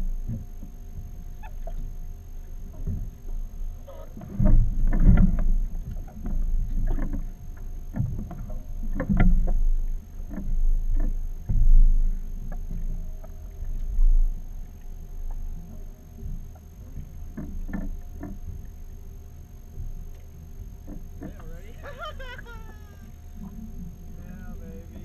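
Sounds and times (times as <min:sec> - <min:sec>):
low steady rumble: 0:00.0 - 0:25.0
water sloshing against boat hull: 0:00.0 - 0:25.0.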